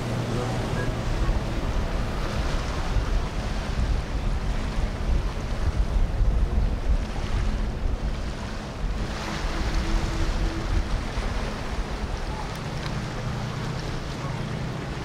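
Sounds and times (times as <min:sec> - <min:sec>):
boat engine low hum: 0:00.0 - 0:15.0
rushing water: 0:00.0 - 0:15.0
wind buffeting microphone: 0:00.0 - 0:15.0.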